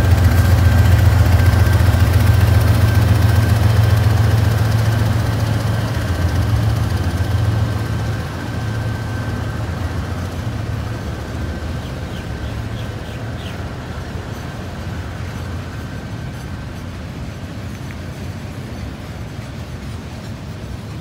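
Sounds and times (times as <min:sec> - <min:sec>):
diesel locomotive engine rumble: 0:00.0 - 0:21.0
freight wagons rolling past: 0:00.0 - 0:21.0.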